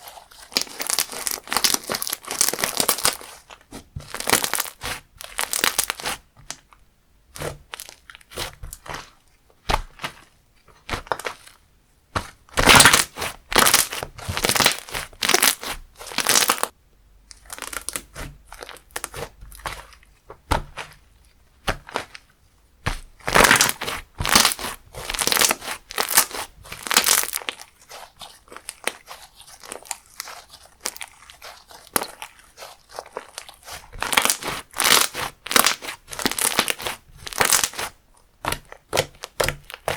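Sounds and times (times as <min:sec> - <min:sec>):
slime crackling and popping: 0:00.0 - 0:06.6, 0:07.3 - 0:10.2, 0:10.8 - 0:11.6, 0:12.2 - 0:16.7, 0:17.3 - 0:21.0, 0:21.6 - 0:39.9.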